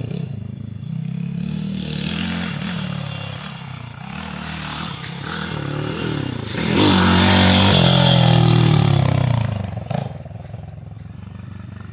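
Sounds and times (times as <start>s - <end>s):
motorbike engine revving past: 0.0s - 11.9s.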